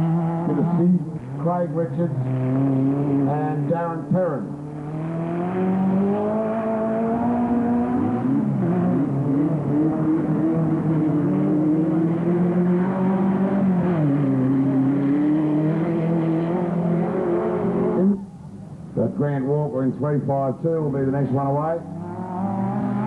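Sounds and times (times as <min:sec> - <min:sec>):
race car engines under load: 0:00.0 - 0:23.0.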